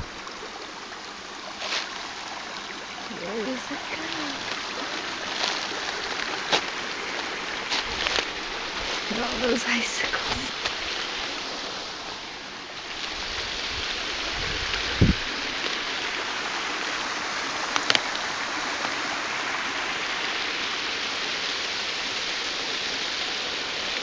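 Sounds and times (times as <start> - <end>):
waterfall splashing: 0.0 - 24.0.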